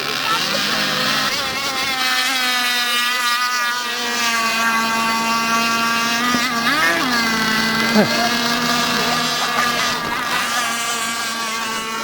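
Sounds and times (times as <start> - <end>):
racing boat motor whining: 0.0 - 12.0.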